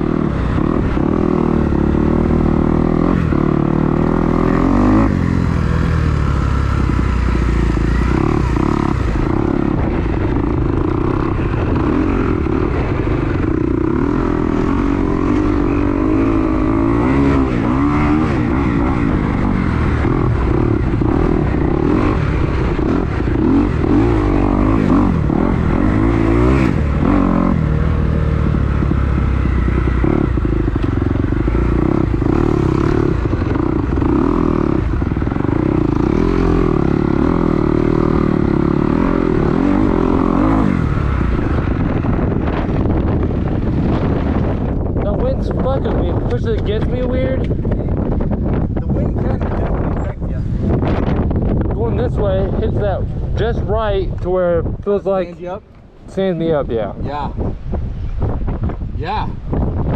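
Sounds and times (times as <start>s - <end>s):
dirt bike engine revving: 0.0s - 49.9s
wind rumble on microphone: 0.0s - 59.9s.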